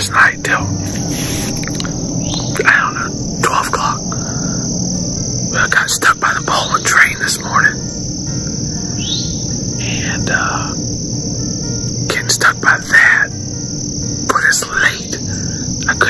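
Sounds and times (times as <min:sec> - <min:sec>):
insects droning: 0:00.0 - 0:16.0
sweeping bird calls: 0:00.0 - 0:16.0.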